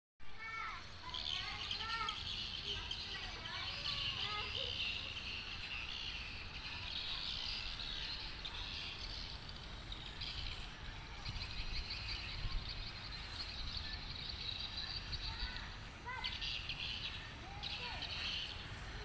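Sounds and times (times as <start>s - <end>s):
swiftlets twittering: 0.7s - 19.0s.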